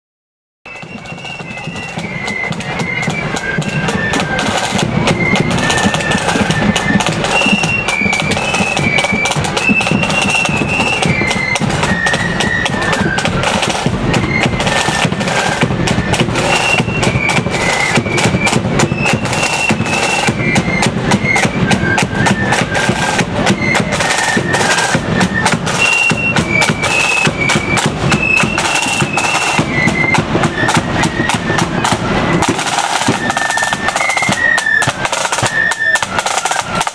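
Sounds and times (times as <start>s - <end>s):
flute melody: 0.7s - 36.9s
snare drum rattling: 0.7s - 36.9s.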